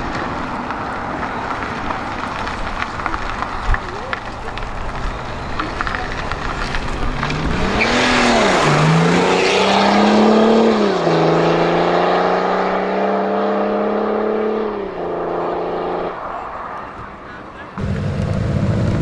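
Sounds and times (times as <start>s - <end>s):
car engine accelerating: 0.0s - 19.0s
tyre noise: 0.0s - 19.0s.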